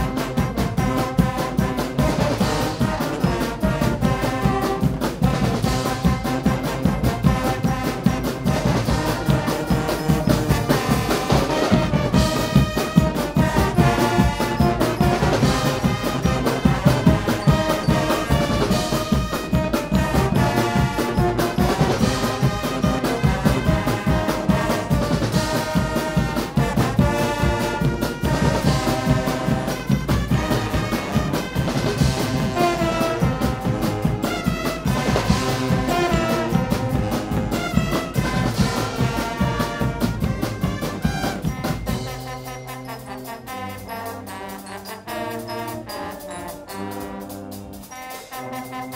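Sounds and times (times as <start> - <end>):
brass instruments blaring: 0.0 - 48.9
drums and cymbals beat: 0.0 - 48.9.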